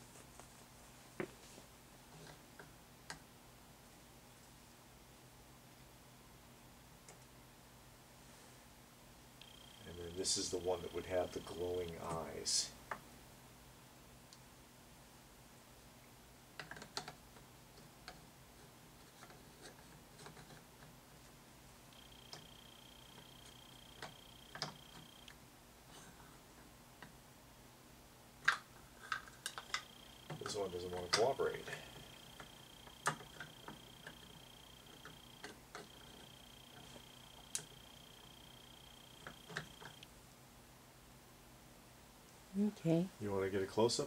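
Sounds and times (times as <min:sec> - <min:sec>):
faint high-pitched whine: 0:00.0 - 0:44.0.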